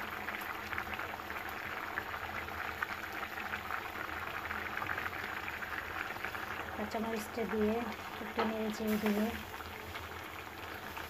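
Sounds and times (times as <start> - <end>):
gravy bubbling with pops: 0.0 - 11.0.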